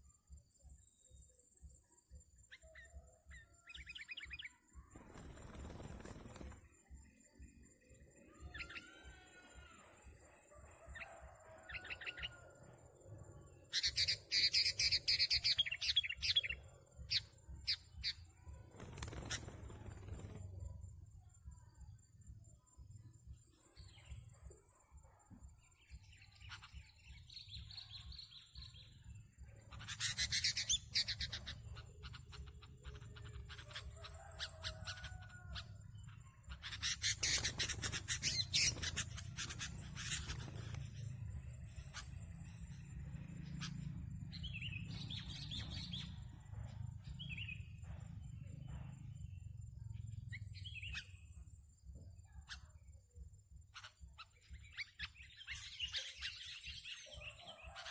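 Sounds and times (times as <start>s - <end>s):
birds chirping: 0.7s - 57.9s.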